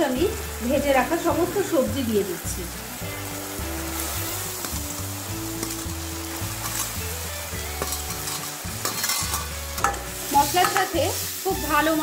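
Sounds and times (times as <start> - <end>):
spices sizzling in a pan: 0.0 - 12.0
background music with bass: 0.2 - 10.6.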